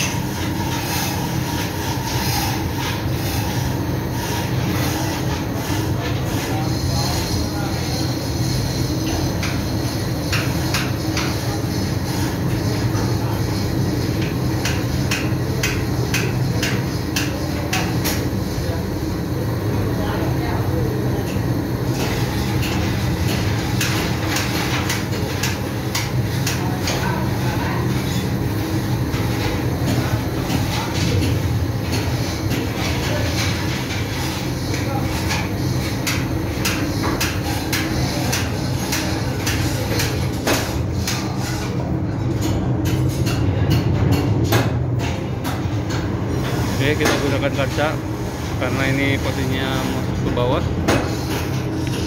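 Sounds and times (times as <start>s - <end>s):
engine-room machinery drone: 0.0s - 52.0s.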